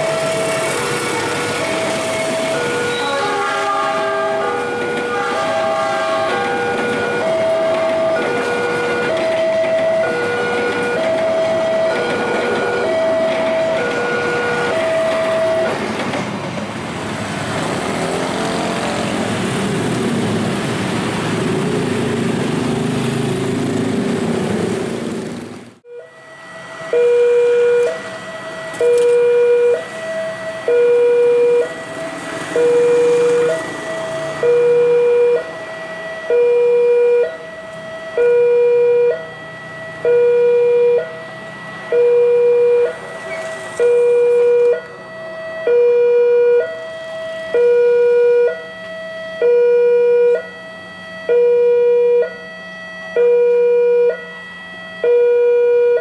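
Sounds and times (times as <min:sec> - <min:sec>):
level crossing two-tone alarm: 0:00.0 - 0:15.8, 0:25.9 - 0:56.0.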